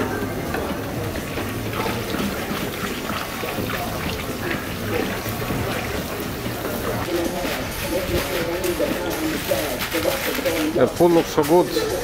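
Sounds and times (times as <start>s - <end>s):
liquid bubbling and sizzling in pan: 0.0s - 12.0s.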